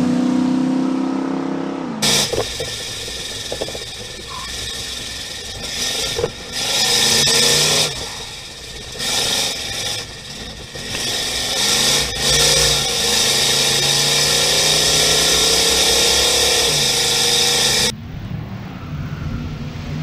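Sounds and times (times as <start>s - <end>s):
car engine at high speed: 0.0s - 20.0s.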